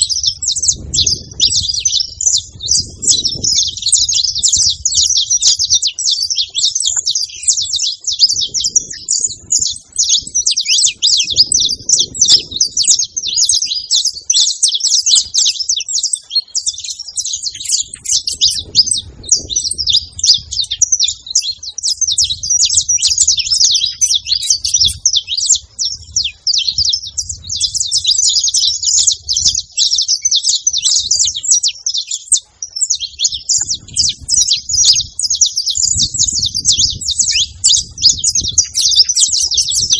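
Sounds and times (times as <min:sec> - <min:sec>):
finch chirping and trilling: 0:00.0 - 0:39.9.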